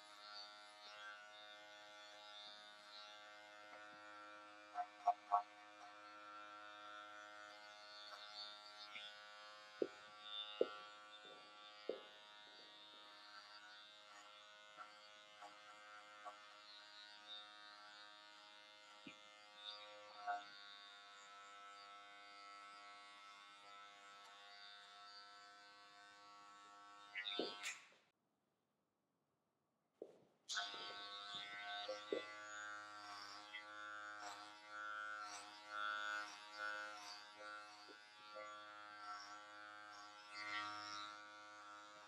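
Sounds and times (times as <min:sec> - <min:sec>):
electric hair clippers buzzing: 0:00.0 - 0:28.0, 0:30.5 - 0:42.0.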